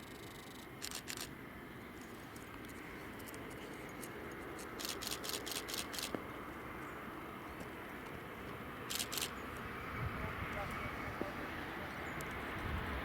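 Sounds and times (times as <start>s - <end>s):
outdoor background rumble: 0.0s - 13.0s.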